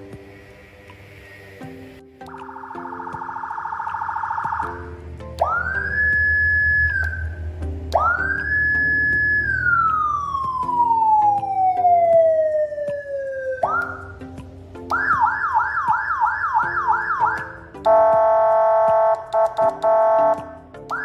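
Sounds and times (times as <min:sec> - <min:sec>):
motorcycle siren wailing and yelping: 0:02.3 - 0:21.0.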